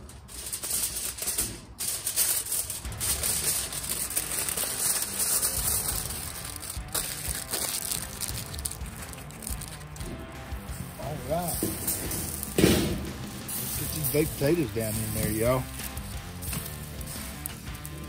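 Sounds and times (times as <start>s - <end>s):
aluminium foil crinkling: 0.0s - 18.0s
upbeat background music: 2.8s - 18.0s.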